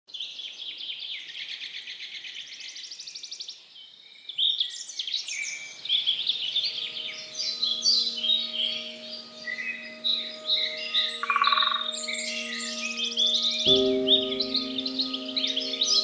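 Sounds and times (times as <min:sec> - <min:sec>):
songbirds singing: 0:00.1 - 0:16.0.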